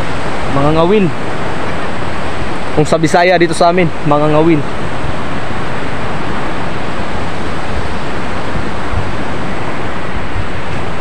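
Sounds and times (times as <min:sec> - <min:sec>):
waves breaking on a beach: 0:00.0 - 0:11.0
wind rumbling on microphone: 0:00.0 - 0:11.0.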